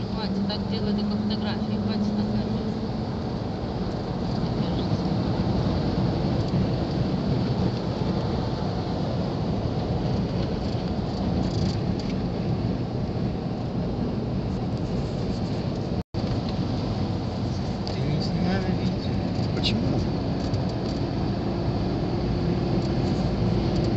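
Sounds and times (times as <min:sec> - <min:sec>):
road and wind noise inside car: 0:00.0 - 0:23.9.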